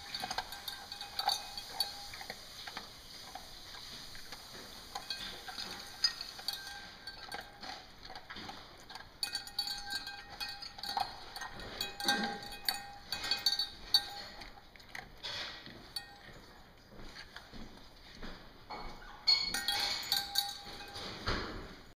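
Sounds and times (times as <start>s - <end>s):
metal bowl clinking and ringing: 0.0s - 15.0s, 15.8s - 16.4s, 18.7s - 21.7s
dog eating from metal bowl: 0.0s - 21.9s.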